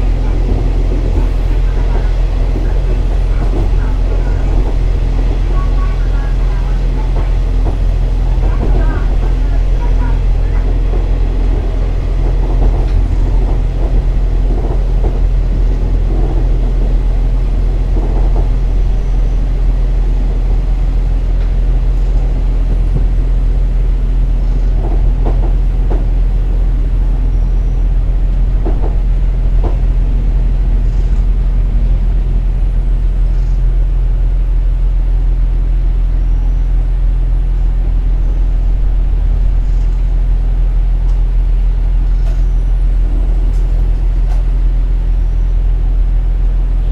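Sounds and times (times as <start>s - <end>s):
diesel railcar engine drone: 0.0s - 46.9s
wheel and rail rumble: 0.0s - 46.9s.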